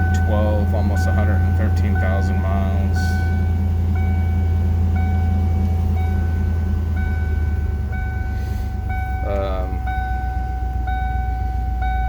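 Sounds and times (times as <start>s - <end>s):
car engine idling: 0.0s - 12.0s
electronic warning beep: 0.0s - 12.0s.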